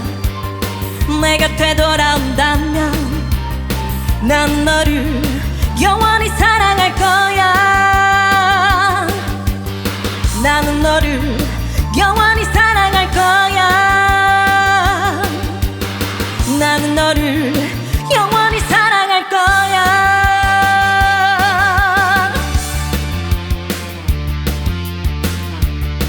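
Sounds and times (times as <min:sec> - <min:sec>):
live band with bass and beat: 0:00.0 - 0:18.8, 0:19.5 - 0:26.0
lead vocalist singing with vibrato: 0:01.0 - 0:09.7, 0:10.3 - 0:22.9.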